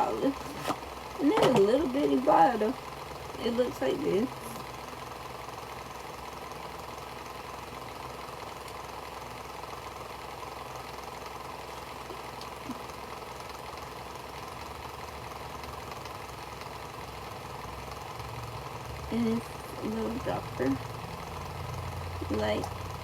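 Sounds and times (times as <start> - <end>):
steady mechanical hum with hiss: 0.0 - 23.0.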